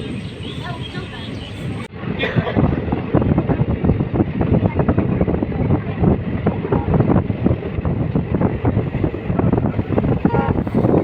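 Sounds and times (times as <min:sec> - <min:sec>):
passenger train running: 0:00.0 - 0:11.0
wind buffeting microphone: 0:00.0 - 0:11.0.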